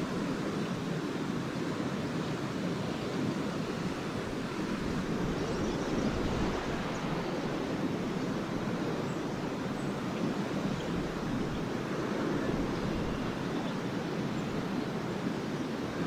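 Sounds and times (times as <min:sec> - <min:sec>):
lake waves washing on shore: 0:00.0 - 0:16.0.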